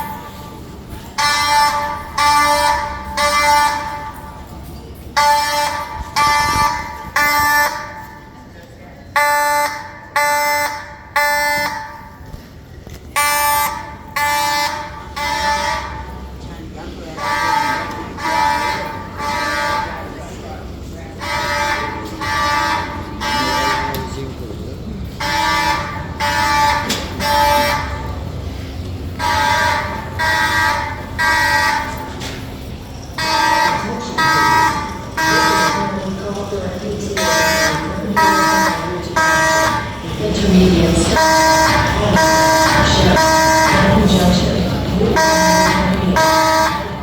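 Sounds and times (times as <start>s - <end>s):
fire alarm horn blasts: 0.0s - 47.0s.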